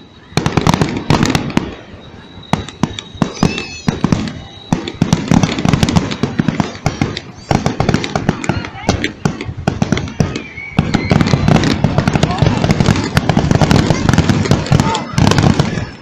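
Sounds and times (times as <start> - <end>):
fireworks crackles and pops: 0.0 - 16.0.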